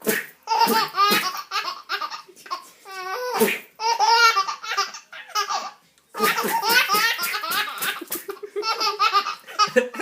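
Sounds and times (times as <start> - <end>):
baby laughing: 0.0 - 10.0.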